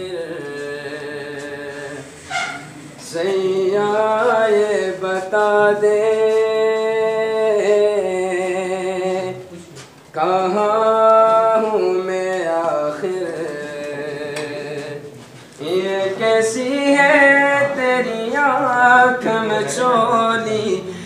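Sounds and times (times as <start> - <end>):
man singing unaccompanied: 0.0 - 2.2, 3.0 - 21.0.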